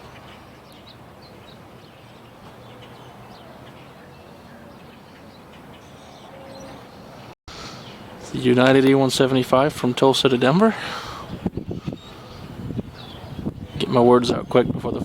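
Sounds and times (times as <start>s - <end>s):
small birds chirping: 0.0s - 9.4s, 10.0s - 14.8s.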